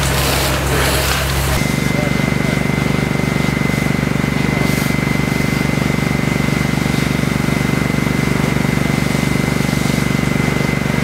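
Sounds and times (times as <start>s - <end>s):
large engine running steadily: 0.0s - 11.0s.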